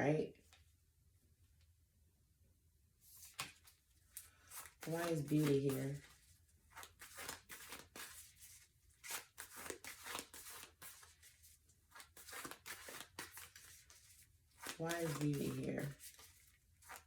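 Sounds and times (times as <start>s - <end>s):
cards rustling and clicking: 3.1s - 17.0s.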